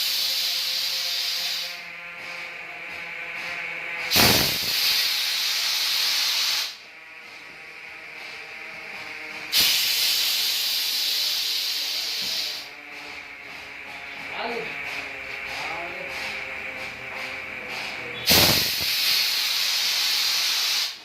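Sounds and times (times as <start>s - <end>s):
compressed air hissing: 0.0s - 21.0s.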